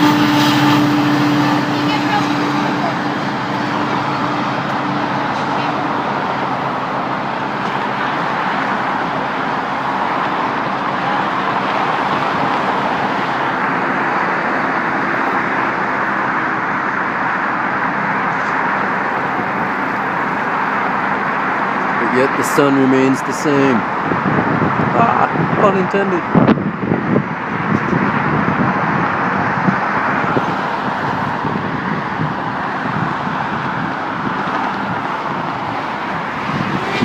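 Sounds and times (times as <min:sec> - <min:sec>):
road traffic rush: 0:00.0 - 0:37.0.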